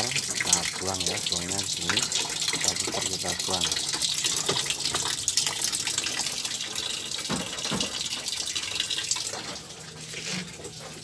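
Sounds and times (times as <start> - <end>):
drain water rushing: 0.0 - 11.0.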